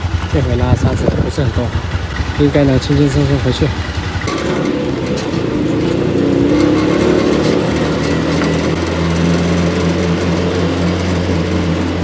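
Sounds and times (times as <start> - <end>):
motor tricycle engine droning: 0.0 - 12.0.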